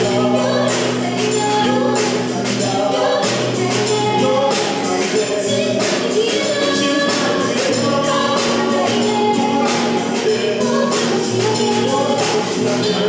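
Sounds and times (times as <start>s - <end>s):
electric bass: 0.0s - 13.0s
guitar: 0.0s - 13.0s
steady drum beat: 0.0s - 13.0s
woman singing: 0.0s - 13.0s.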